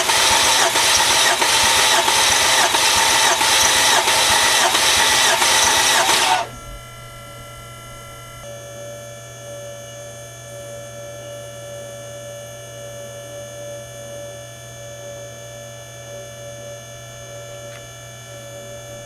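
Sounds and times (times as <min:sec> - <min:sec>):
electric whirring hum: 0:00.0 - 0:19.0.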